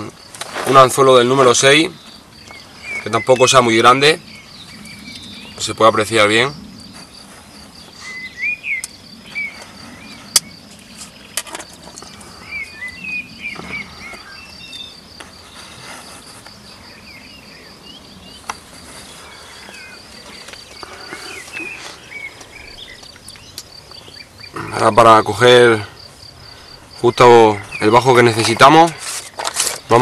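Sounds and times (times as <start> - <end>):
insect chirping: 0.0 - 30.0
bird chirps: 1.2 - 30.0.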